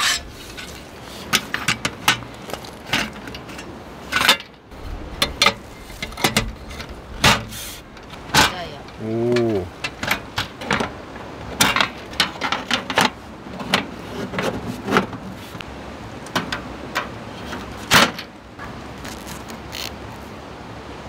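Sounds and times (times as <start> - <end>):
camping table parts clicking: 0.0 - 18.4, 19.0 - 20.0.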